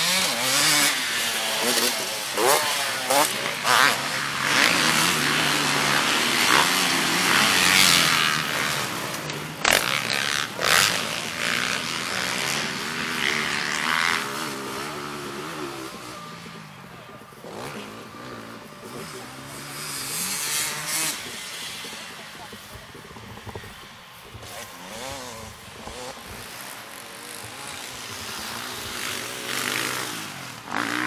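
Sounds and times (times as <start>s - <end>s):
dirt bike engines revving: 0.0s - 31.0s.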